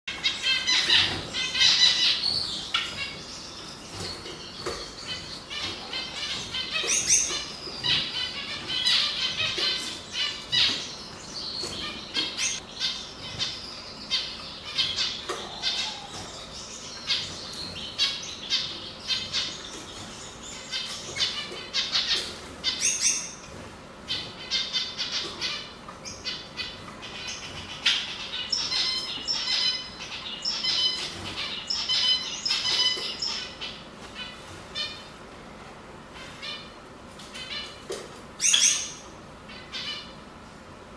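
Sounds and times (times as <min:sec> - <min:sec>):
canary singing chirps and trills: 0:00.0 - 0:40.4.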